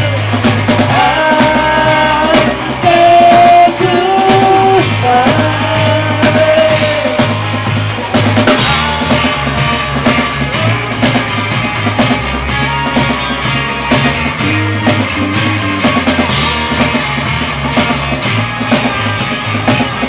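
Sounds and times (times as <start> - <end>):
drum kit with cymbals: 0.0 - 20.0
guitars: 0.0 - 20.0
stepping bass line: 0.0 - 20.0.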